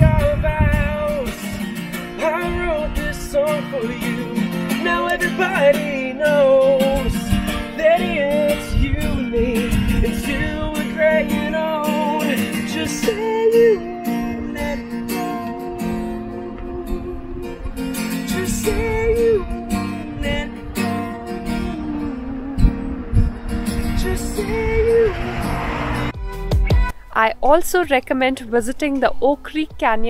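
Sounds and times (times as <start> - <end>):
person singing: 0.0 - 26.0
acoustic guitar strumming: 0.0 - 29.2.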